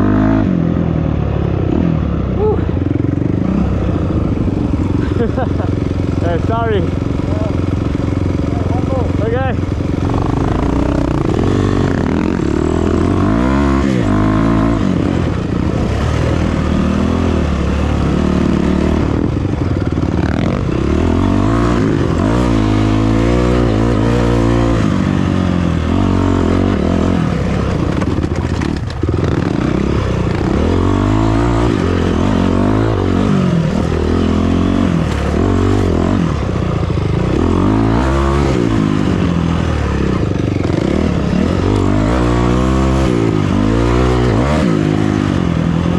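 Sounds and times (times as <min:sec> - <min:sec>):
off-road vehicle engine revving: 0:01.7 - 0:45.9.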